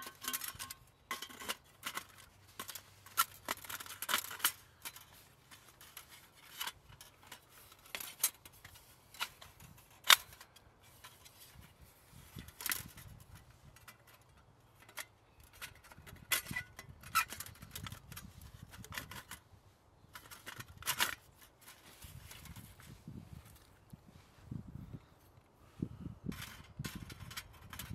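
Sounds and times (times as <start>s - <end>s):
metal panels clicking and clinking: 0.0s - 19.4s, 20.1s - 22.7s, 26.3s - 27.9s.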